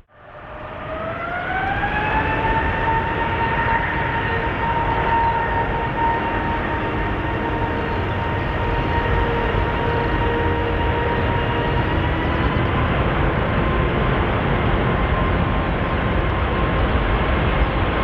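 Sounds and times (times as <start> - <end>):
jet engine roar: 0.0 - 18.0
jet engine whine: 0.0 - 18.0.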